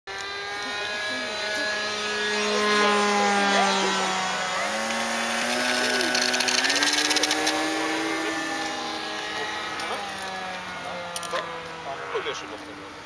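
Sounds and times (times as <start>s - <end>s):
model plane propeller motor: 0.1s - 13.0s.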